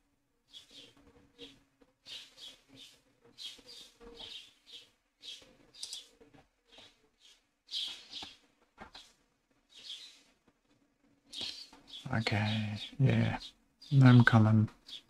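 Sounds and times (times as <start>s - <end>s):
bird chirping: 0.5s - 10.3s, 11.3s - 15.0s.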